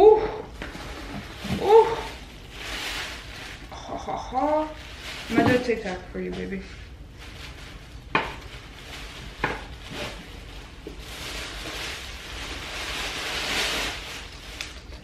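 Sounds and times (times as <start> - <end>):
paper wrapping rustling: 0.6 - 15.0.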